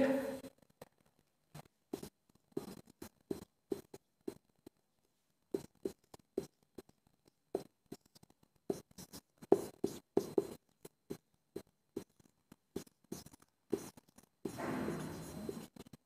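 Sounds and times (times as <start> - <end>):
marker pen writing on whiteboard: 0.6 - 16.0.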